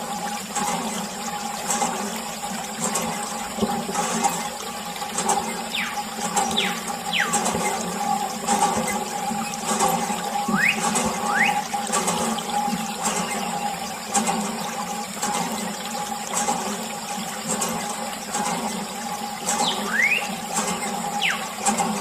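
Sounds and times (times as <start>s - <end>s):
water splashing on plastic toy: 0.0s - 22.0s.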